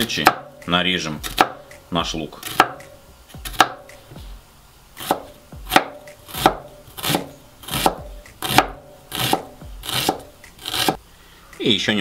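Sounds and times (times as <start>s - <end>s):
knife chopping onion on board: 0.0s - 4.2s, 5.0s - 11.0s.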